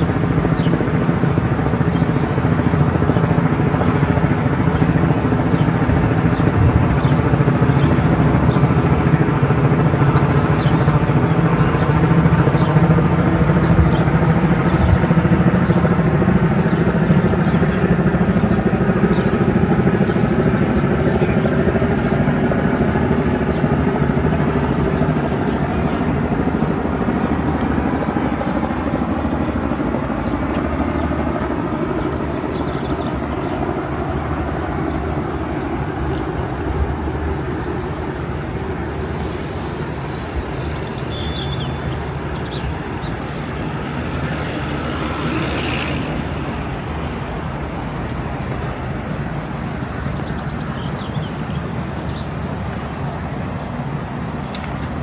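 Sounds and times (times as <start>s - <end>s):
steady engine drone: 0.0s - 55.0s.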